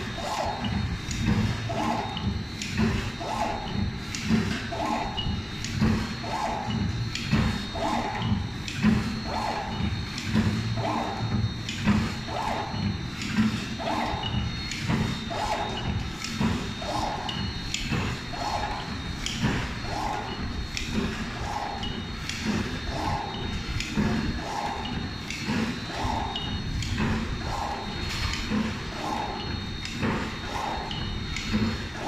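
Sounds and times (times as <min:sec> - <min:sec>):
steady high whine: 0:00.0 - 0:32.0.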